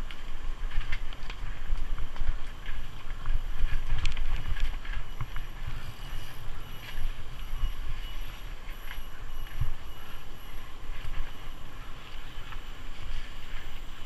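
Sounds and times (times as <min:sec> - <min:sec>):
bike clicking and rattling: 0:00.0 - 0:14.0
bike tyres rolling over dirt: 0:00.0 - 0:14.0
wind buffeting microphone: 0:00.0 - 0:14.0.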